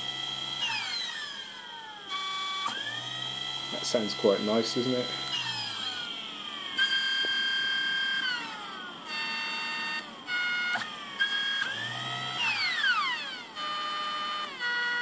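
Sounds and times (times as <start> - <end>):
motor high whine: 0.0 - 15.0.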